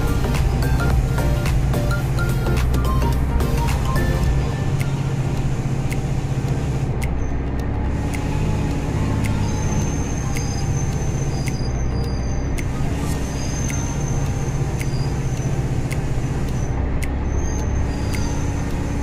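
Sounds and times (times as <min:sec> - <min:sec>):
light sharp ticks: 0:00.0 - 0:19.0
road noise on wet road: 0:00.0 - 0:19.0
vehicle engine running: 0:00.0 - 0:19.0.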